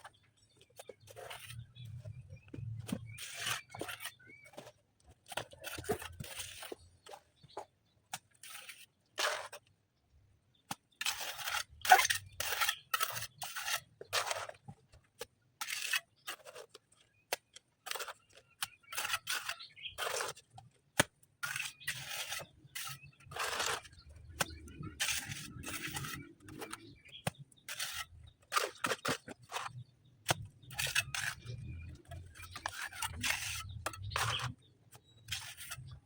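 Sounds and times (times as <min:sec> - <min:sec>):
scraping on stone and mortar: 0:00.0 - 0:09.7, 0:10.7 - 0:36.0.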